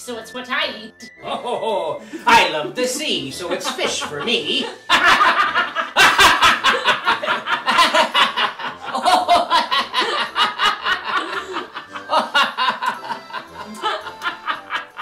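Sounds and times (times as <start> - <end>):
group laughing: 1.2 - 2.7, 3.4 - 15.0.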